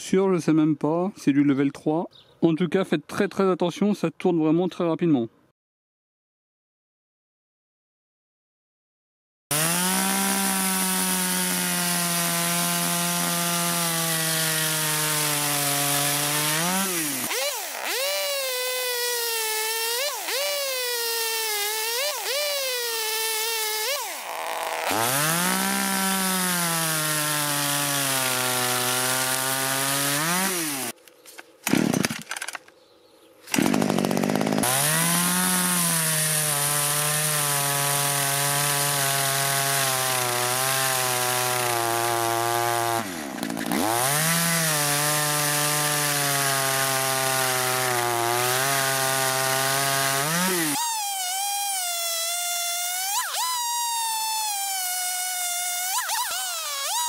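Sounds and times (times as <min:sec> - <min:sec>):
chainsaw cutting timber: 0:09.5 - 0:31.0, 0:31.6 - 0:32.6, 0:33.5 - 0:57.0.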